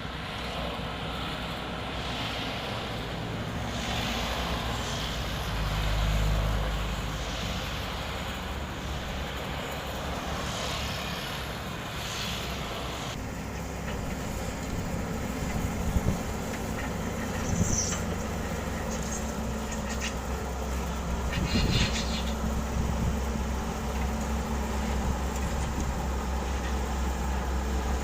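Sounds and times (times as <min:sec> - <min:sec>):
diesel engines running: 0:00.0 - 0:28.0.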